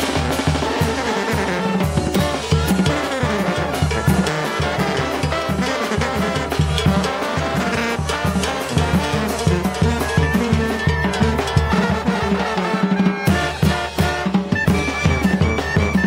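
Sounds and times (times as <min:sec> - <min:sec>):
brass band playing: 0:00.0 - 0:16.0
drums and cymbals: 0:00.0 - 0:16.0.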